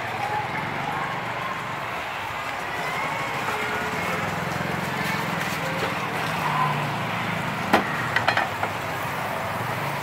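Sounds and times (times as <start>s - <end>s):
traffic engine hum: 0.0s - 10.0s.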